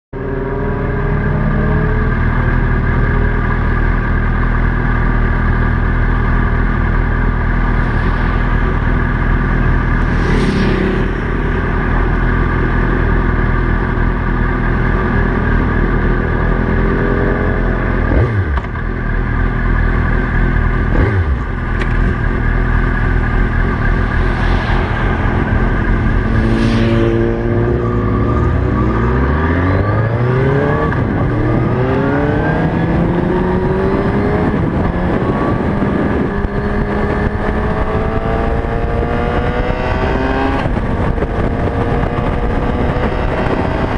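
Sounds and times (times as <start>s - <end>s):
motorcycle engine idling and revving: 0.2s - 43.9s.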